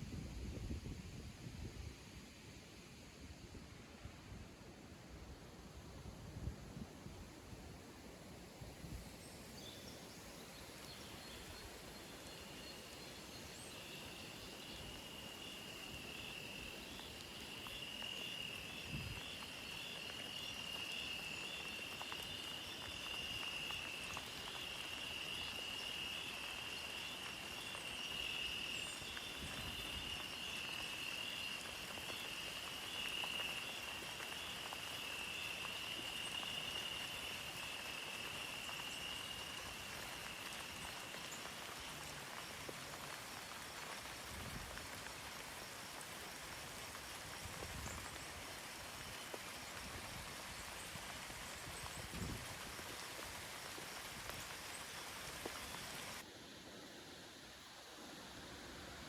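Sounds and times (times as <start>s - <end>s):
soft hiss of water: 0.0s - 59.0s
insects trilling: 8.7s - 59.0s.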